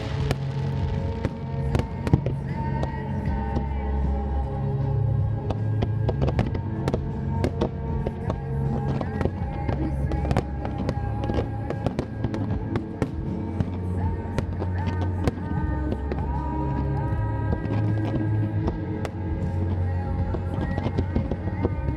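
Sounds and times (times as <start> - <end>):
fireworks bangs and crackles: 0.0 - 21.9.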